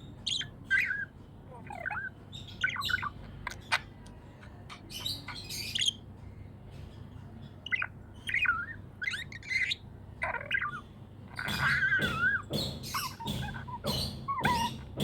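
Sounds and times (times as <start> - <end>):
budgerigar chirping and warbling: 0.2 - 4.0, 4.7 - 6.0, 7.6 - 15.0.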